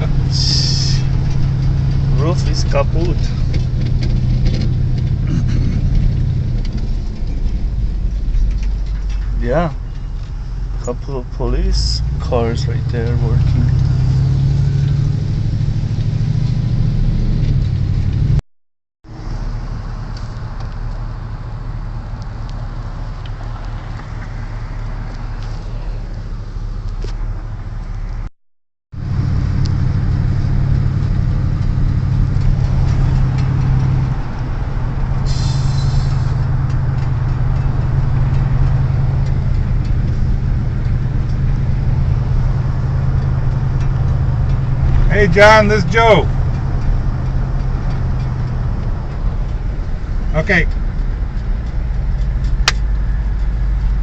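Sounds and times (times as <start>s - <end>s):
car engine and road rumble: 0.0s - 18.4s, 19.0s - 28.3s, 28.9s - 54.0s.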